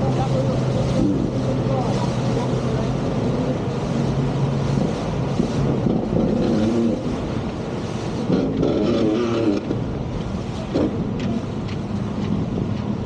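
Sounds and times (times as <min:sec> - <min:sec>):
motorboat engine humming: 0:00.0 - 0:13.0
rushing wind: 0:00.0 - 0:13.0
water noise: 0:00.0 - 0:13.0.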